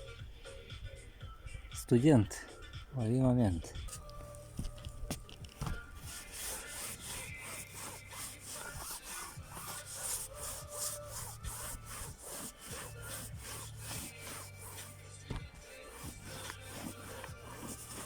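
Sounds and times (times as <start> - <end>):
faint music: 0.0 - 18.0
rhythmic scraping strokes: 2.0 - 18.0.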